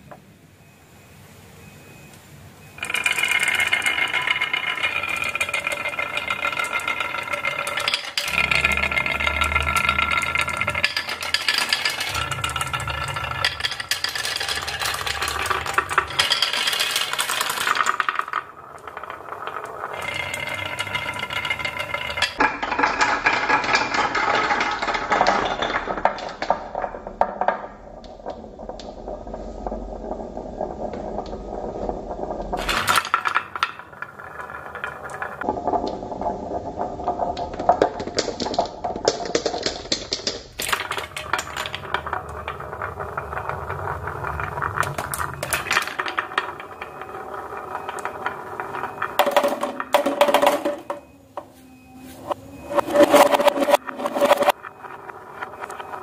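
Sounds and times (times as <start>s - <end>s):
deep rolling rumble: 2.6s - 38.0s, 40.8s - 56.0s
marbles clattering down wooden run: 2.8s - 51.4s, 52.3s - 56.0s.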